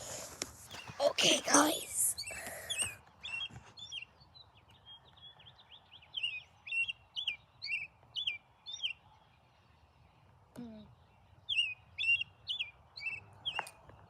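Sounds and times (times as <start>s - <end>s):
bird chirping: 0.6s - 13.8s.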